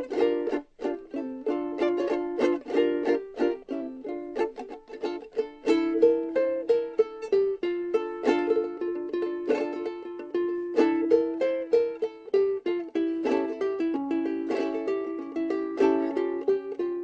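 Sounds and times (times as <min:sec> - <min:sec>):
plucked string instrument melody: 0:00.0 - 0:17.0.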